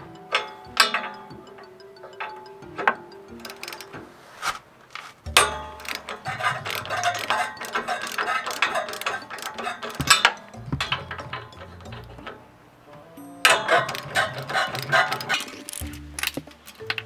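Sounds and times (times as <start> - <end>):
metal hand tools clicking: 0.0 - 12.6, 13.3 - 17.0
background music: 0.0 - 17.0.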